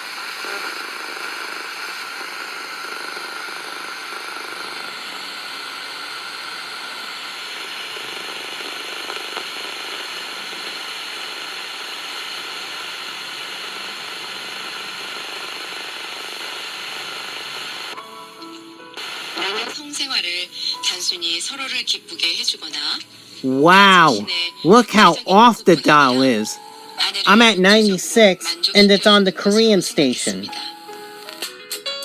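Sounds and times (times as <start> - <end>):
radio static hiss: 0.0 - 18.0, 19.0 - 20.8, 23.4 - 30.9.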